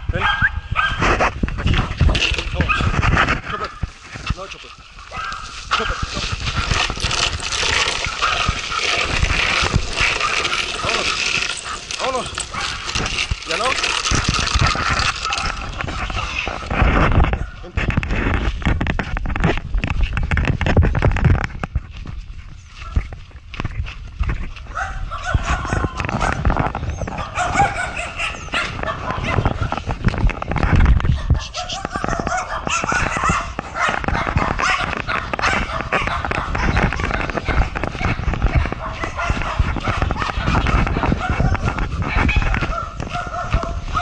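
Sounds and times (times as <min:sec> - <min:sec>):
longboard wheels rolling on pavement: 0:01.1 - 0:44.0.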